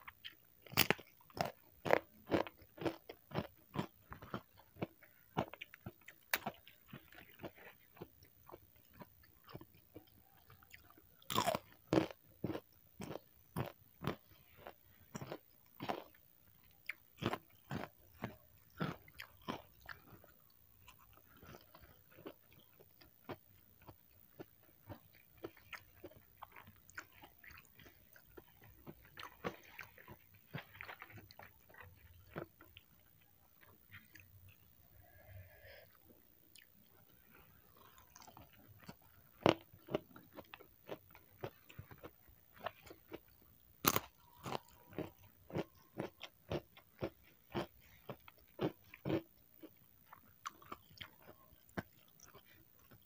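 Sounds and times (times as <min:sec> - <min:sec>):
person crunching crispy cracker: 0:00.0 - 0:35.2, 0:36.6 - 0:53.0.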